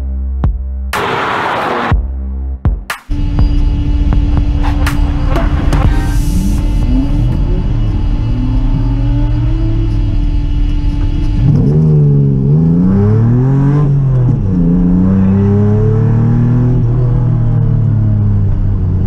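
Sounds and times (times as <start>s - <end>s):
car engine accelerating: 0.9s - 2.1s, 3.1s - 19.0s.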